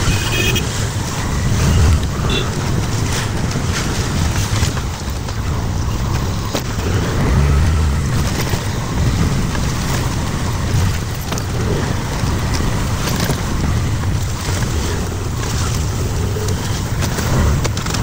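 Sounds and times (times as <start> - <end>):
low engine rumble: 0.0 - 18.0
road and wind noise: 0.0 - 18.0.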